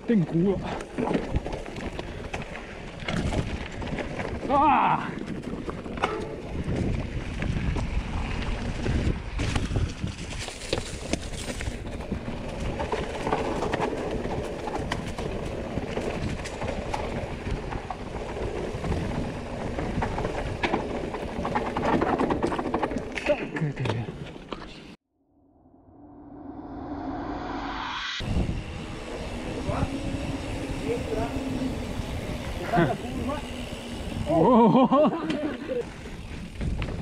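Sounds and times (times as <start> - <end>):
bike chain and frame rattling: 0.2 - 23.5, 28.3 - 37.0
bike tyres crunching over stones: 0.2 - 24.4, 28.6 - 37.0.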